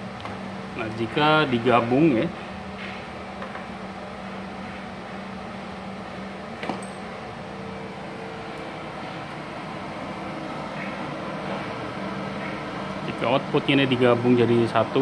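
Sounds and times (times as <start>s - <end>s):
welding machine humming: 0.0s - 15.0s.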